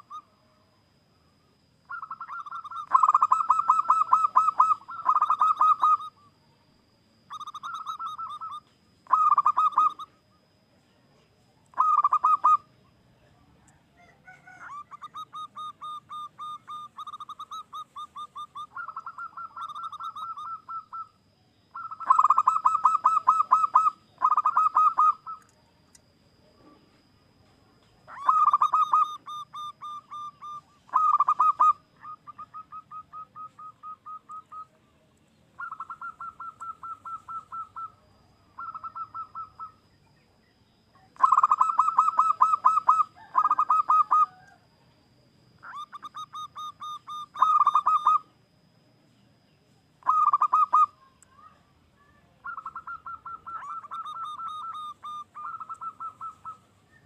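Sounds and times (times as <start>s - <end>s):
dove cooing: 0.0s - 0.7s, 1.9s - 6.4s, 7.2s - 10.2s, 11.7s - 25.6s, 27.8s - 34.8s, 35.6s - 39.9s, 40.9s - 44.7s, 45.6s - 48.3s, 50.0s - 51.5s, 52.2s - 57.0s
faint high-pitched tone: 0.0s - 57.0s.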